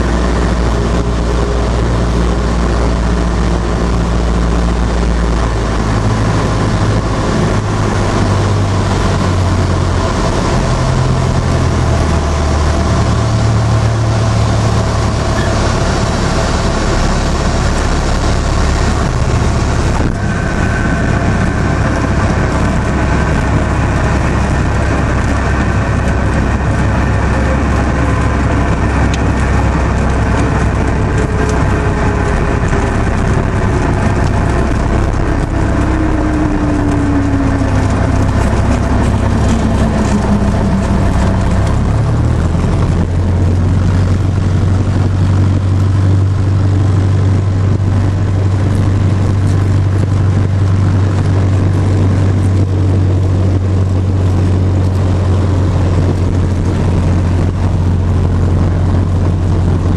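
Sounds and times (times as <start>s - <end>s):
airplane engine and propeller: 0.0s - 59.9s
whine falling in pitch: 0.0s - 59.9s.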